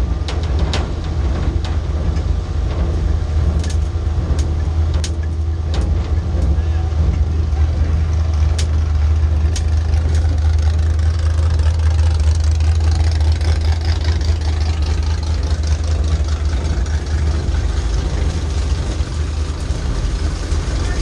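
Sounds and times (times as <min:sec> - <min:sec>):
race car engine droning: 0:00.0 - 0:21.0.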